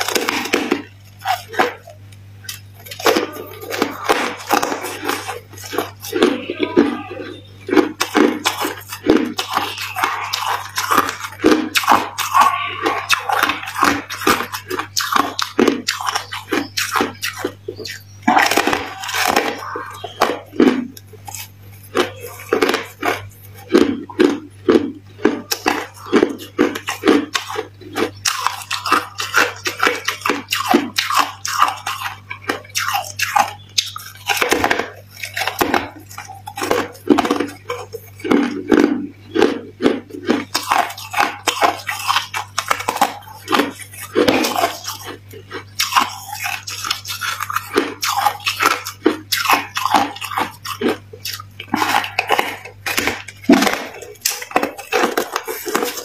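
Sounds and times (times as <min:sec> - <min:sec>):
crunching frost being chewed: 0:00.0 - 0:56.0
steady low hum: 0:00.0 - 0:56.0.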